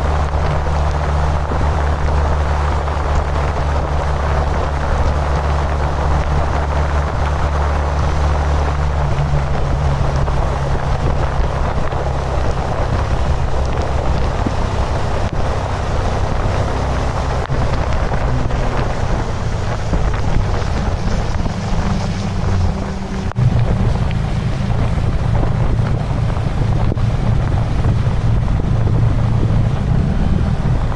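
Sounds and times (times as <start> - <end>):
engine running: 0.0 - 30.9
wind rush on microphone: 0.0 - 30.9.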